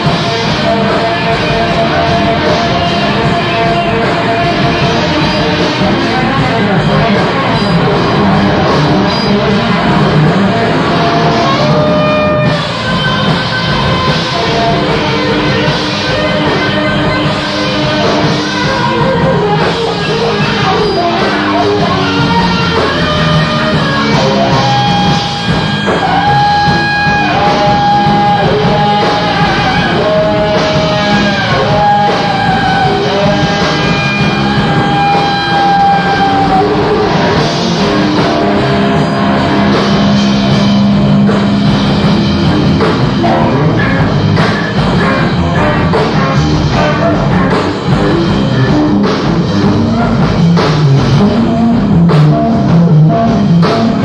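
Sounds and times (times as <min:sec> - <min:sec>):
drums: 0:00.0 - 0:54.0
held lead melody with bends: 0:00.0 - 0:54.0
jazz-rock band playing: 0:00.0 - 0:54.0.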